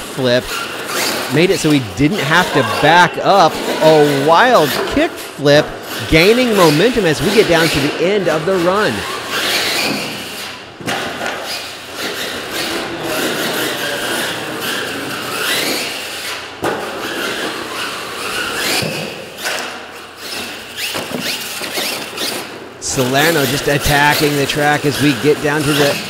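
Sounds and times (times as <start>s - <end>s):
toy truck motor whining: 0.0s - 10.6s, 11.3s - 26.0s.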